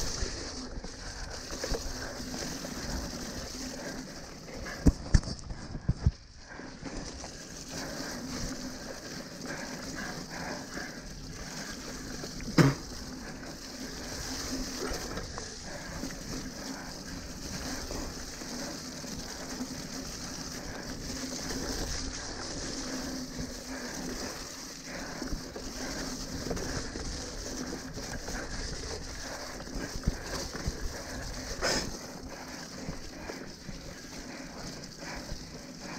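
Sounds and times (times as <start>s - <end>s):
bike tyres rattling on mud: 0.0s - 35.9s.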